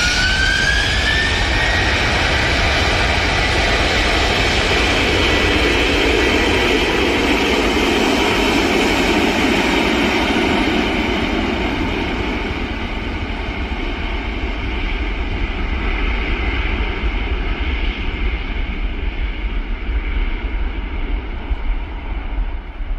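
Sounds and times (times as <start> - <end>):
jet airliner passing: 0.0 - 22.9.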